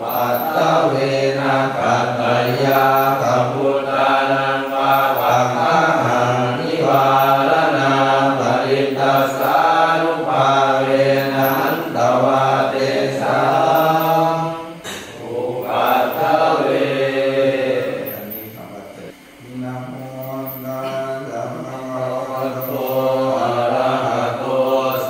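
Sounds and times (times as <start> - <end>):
voices chanting: 0.0 - 25.0.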